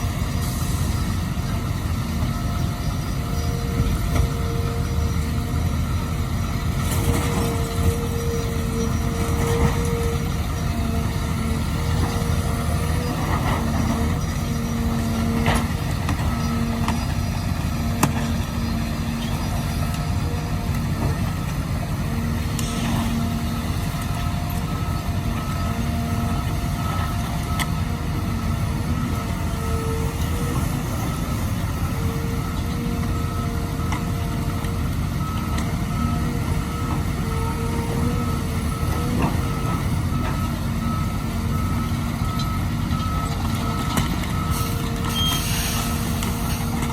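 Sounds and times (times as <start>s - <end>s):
excavator diesel engine running: 0.0s - 46.9s
backup alarm beeping: 0.3s - 46.9s.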